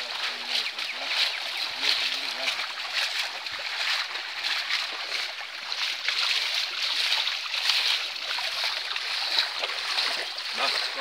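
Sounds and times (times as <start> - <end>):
fish splashing in a net: 0.0 - 11.0.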